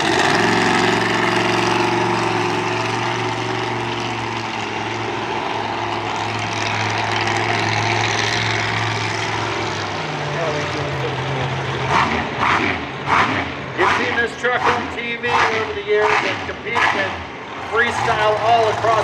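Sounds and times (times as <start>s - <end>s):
truck engine running steadily: 0.0s - 19.0s.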